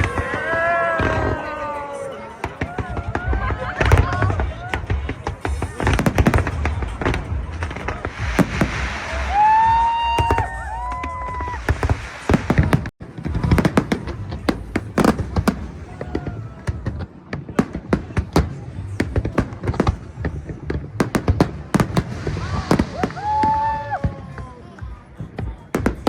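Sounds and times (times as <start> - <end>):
fireworks cracks and bangs: 0.0 - 26.0.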